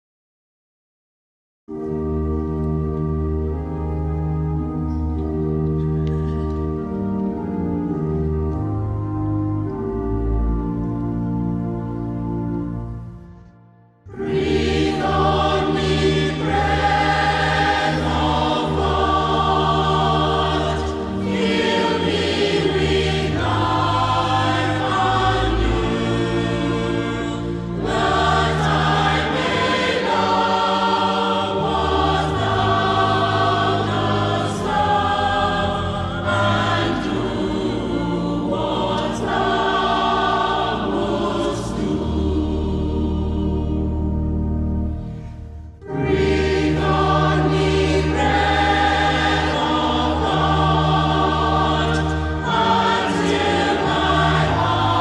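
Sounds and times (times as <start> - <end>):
choir singing church music: 1.7 - 55.0.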